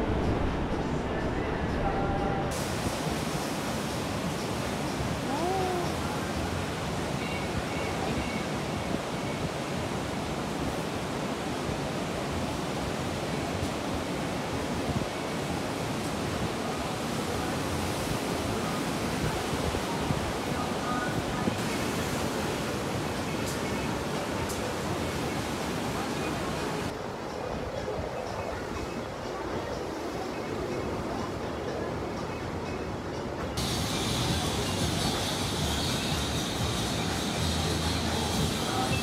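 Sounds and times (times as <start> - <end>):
waves breaking: 0.0 - 39.0.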